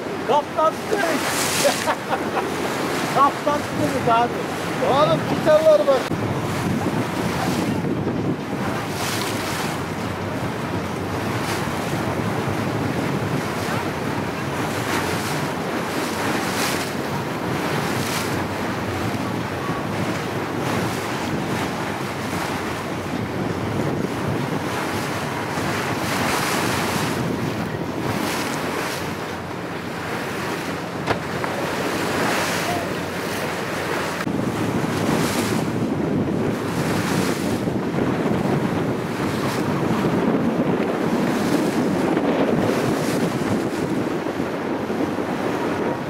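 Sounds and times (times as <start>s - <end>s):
water splashing along boat hull: 0.0s - 46.0s
wind buffeting microphone: 0.0s - 46.0s.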